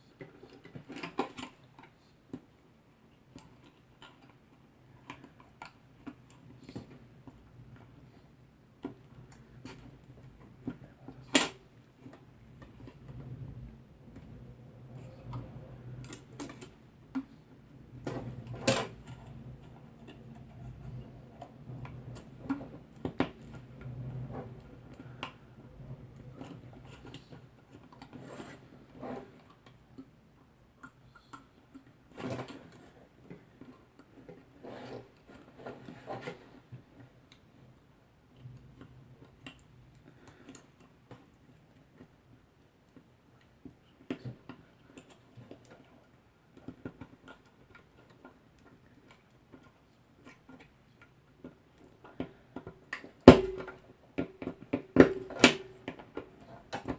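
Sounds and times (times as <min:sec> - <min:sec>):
small clicks and handling noises: 0:00.1 - 0:56.9.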